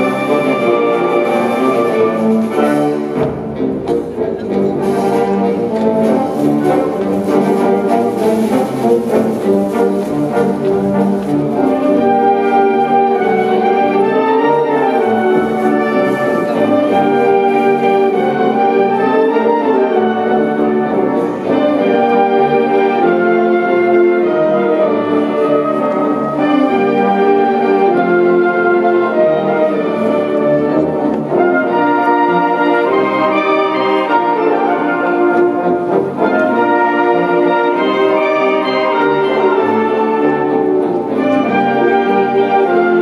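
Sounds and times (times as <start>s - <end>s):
wind band playing: 0.0s - 43.0s.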